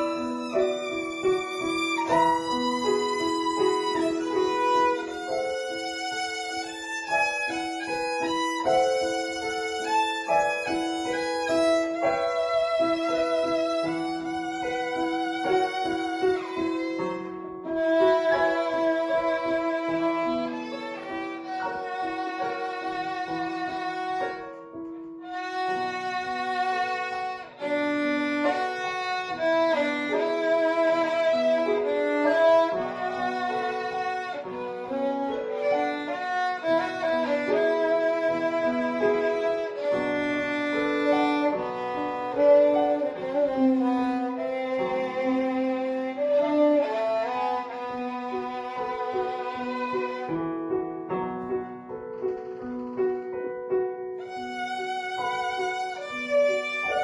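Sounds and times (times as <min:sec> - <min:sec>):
violin playing slow melody: 0:00.0 - 0:57.0.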